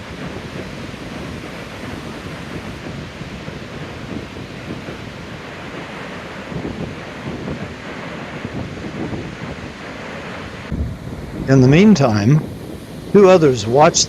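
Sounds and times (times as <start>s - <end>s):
surf washing on sand beach: 0.0s - 14.0s
wind buffeting microphone: 0.0s - 14.0s.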